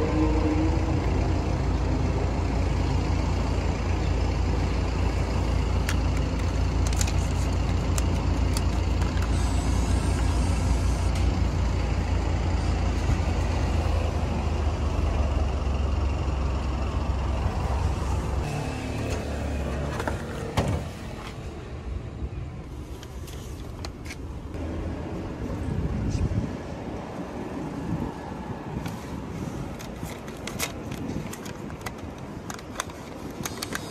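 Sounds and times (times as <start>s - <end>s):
low outdoor rumble: 0.0s - 33.9s.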